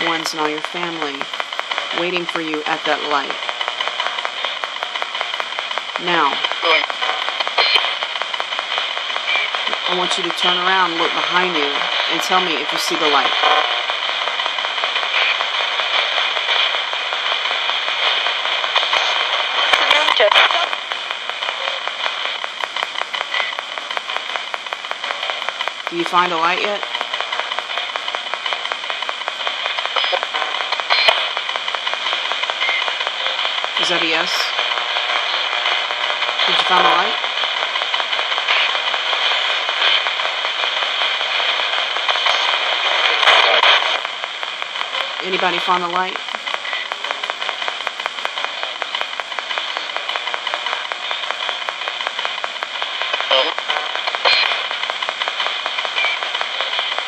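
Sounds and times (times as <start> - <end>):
radio static hiss: 0.0 - 57.0
rapid radio crackling: 0.0 - 57.0.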